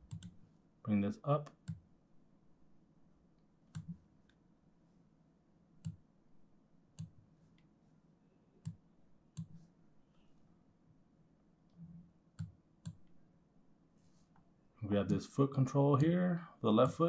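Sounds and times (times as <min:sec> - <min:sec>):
faint room hiss: 0:00.0 - 0:17.0.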